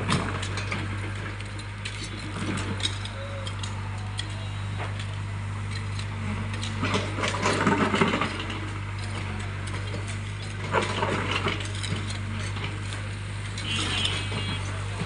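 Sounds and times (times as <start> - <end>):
excavator diesel engine running: 0.0 - 15.0
metallic clanking and scraping: 0.0 - 15.0.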